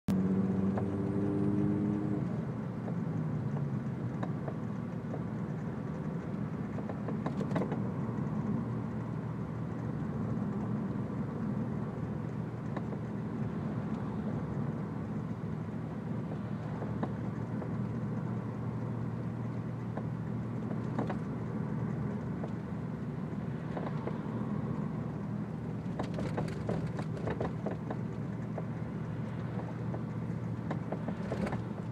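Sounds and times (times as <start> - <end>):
car engine and road drone: 0.1 - 31.9
suspension clunks: 2.2 - 10.8, 12.2 - 15.7, 16.3 - 31.9.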